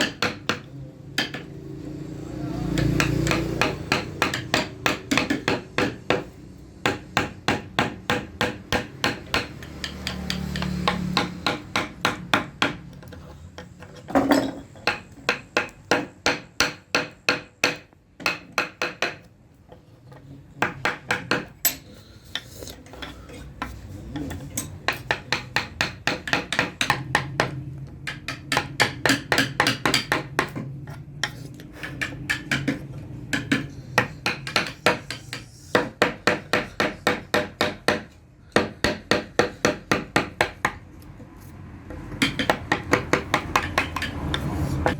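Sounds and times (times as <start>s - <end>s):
mallet tapping chisel into wood: 0.0s - 1.5s, 2.7s - 13.0s, 14.8s - 19.3s, 20.6s - 21.8s, 24.8s - 40.8s, 42.0s - 44.9s.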